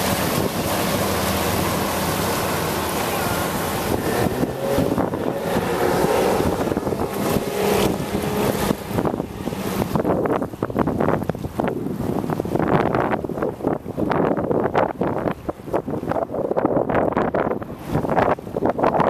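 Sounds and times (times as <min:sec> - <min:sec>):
outboard motors running at speed: 0:00.0 - 0:19.0
rush of boat wash: 0:00.0 - 0:19.0
wind buffeting microphone: 0:00.0 - 0:19.0.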